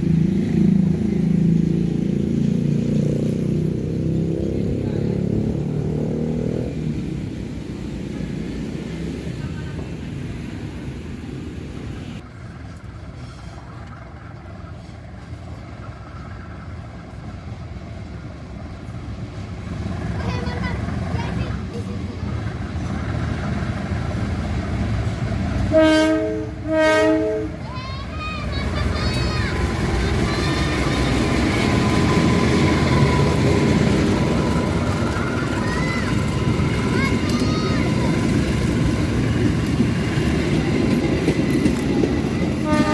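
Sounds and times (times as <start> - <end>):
train rumbling with low drone: 0.0 - 42.9.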